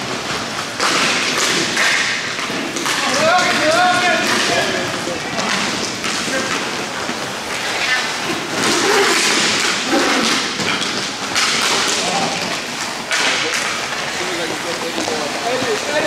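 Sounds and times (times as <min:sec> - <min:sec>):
skates and sticks on ice: 0:00.0 - 0:16.0.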